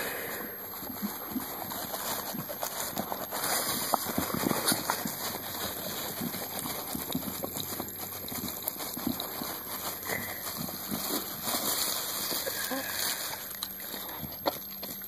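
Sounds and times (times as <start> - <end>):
dog chewing: 0.0 - 15.0.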